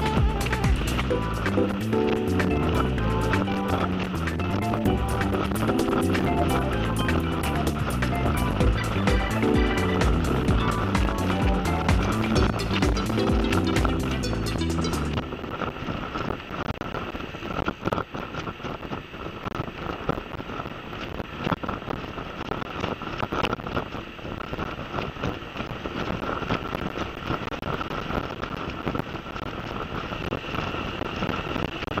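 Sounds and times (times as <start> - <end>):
scooter engine and road noise: 0.0 - 32.0
wind on microphone: 0.0 - 32.0.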